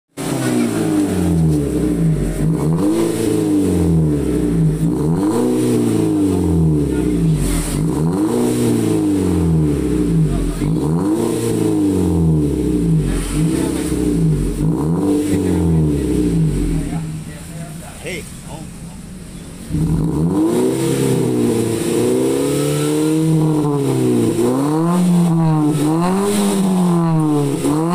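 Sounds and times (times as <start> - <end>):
car engine revving: 0.1 - 27.9.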